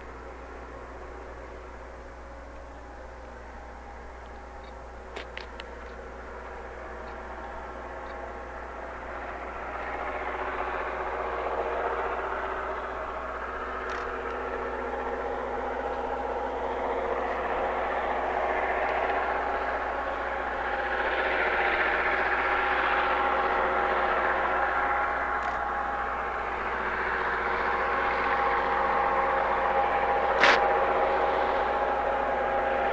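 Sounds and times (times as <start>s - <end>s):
diesel locomotive engines: 0.0s - 32.9s.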